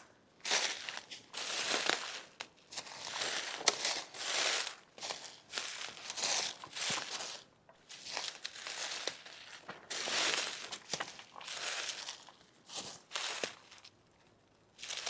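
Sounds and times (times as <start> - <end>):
footsteps crunching dry leaves: 0.0 - 13.9, 14.8 - 15.0.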